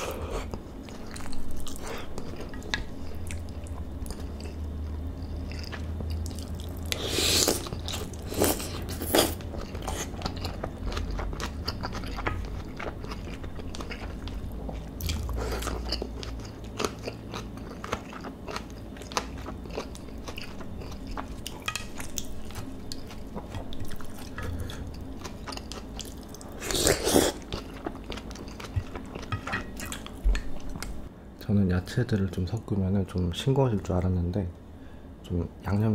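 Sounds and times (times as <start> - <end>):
person chewing food: 0.0 - 31.1.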